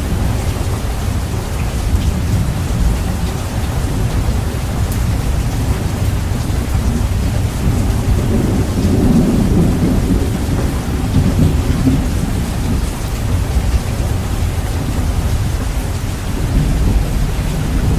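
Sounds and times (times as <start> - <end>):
steady rain: 0.0 - 17.9
thunder rumbling: 0.0 - 17.9.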